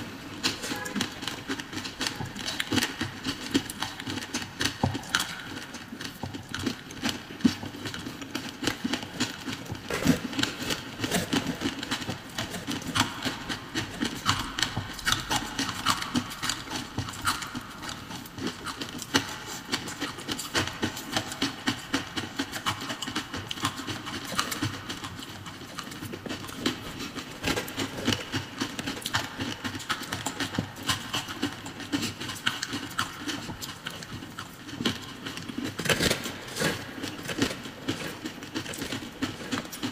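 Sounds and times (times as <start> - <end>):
crunching ice chewing: 0.1 - 39.9.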